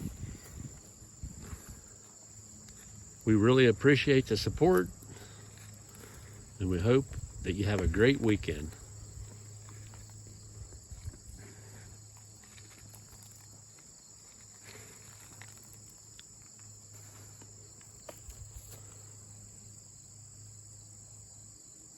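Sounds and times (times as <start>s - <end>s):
low steady hum: 0.0s - 20.7s
crickets trilling: 0.0s - 21.9s.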